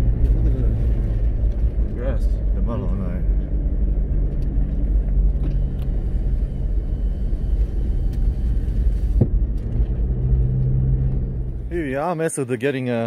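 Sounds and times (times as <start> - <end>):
car engine hum: 0.0 - 12.2
road rumble: 0.0 - 12.5.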